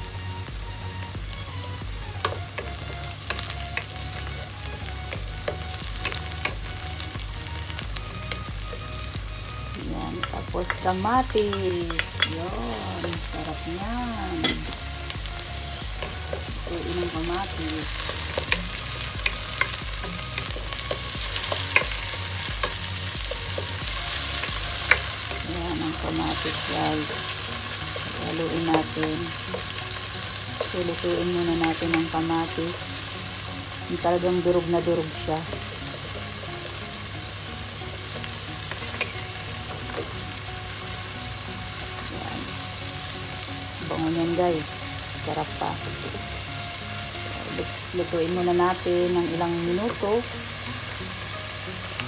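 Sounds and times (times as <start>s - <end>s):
onions sizzling in oil: 0.0s - 52.0s.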